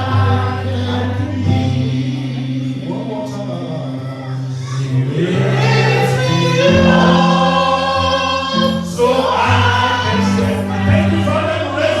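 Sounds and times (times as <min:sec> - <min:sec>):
choir singing gospel: 0:00.0 - 0:12.0.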